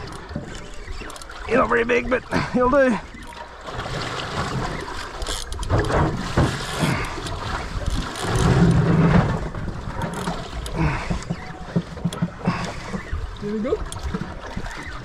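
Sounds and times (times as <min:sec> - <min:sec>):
water slapping against boat hull: 0:00.0 - 0:15.0.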